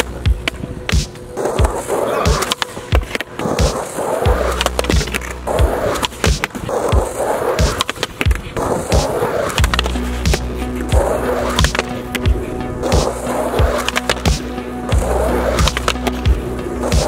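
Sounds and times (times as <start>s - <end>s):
background music with steady beat: 0.0s - 17.0s
skateboard wheels rolling on concrete: 0.0s - 17.0s.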